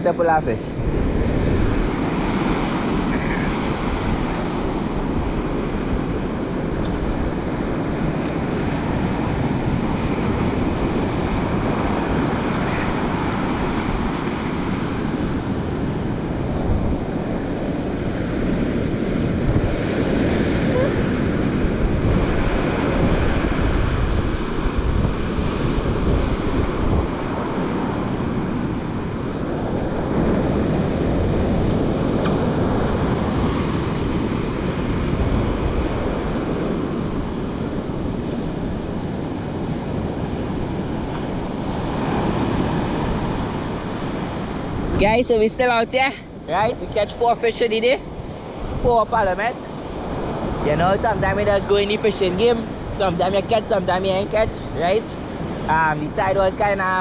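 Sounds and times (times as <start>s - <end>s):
waves breaking on beach: 0.0s - 57.0s
wind buffeting microphone: 0.0s - 57.0s.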